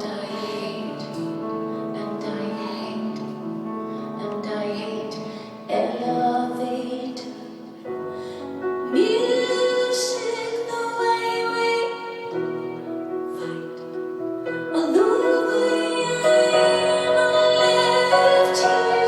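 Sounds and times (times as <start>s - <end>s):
piano: 0.0s - 19.0s
woman singing: 0.0s - 19.0s.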